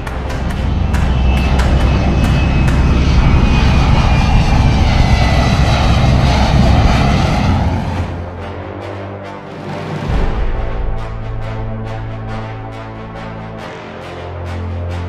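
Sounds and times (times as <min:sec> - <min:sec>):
jet aircraft roar and whine: 0:00.0 - 0:15.0.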